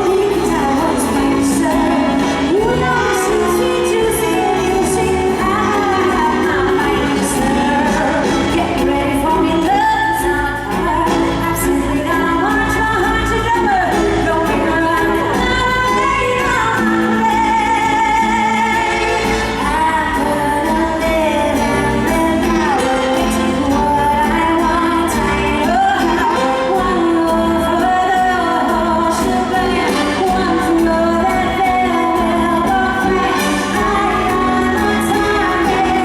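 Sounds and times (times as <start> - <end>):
band accompaniment: 0.0 - 36.0
woman singing: 0.0 - 36.0.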